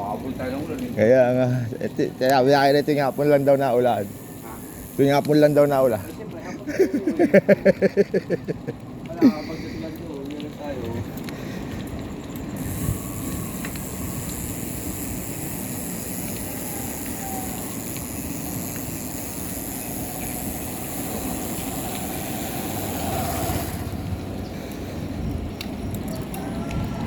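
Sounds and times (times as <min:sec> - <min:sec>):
wind and road noise: 0:00.0 - 0:27.0.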